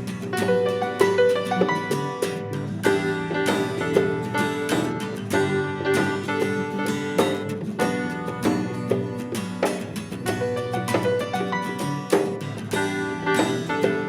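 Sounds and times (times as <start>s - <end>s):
drum beat: 0.0s - 14.0s
guitars: 0.0s - 14.0s.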